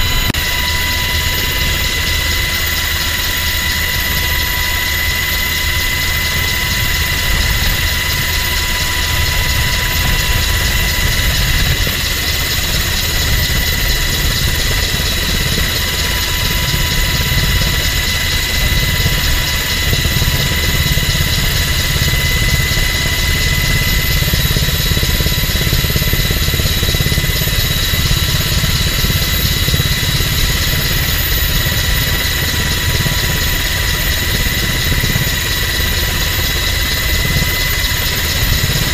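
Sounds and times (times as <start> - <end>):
helicopter engine low rumble: 0.0 - 38.9
helicopter turbine high whine: 0.0 - 38.9.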